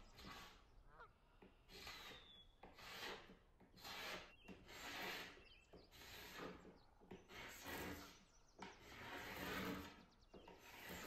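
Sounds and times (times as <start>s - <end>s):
hand scraper on painted wood: 0.0s - 0.6s, 1.7s - 11.0s.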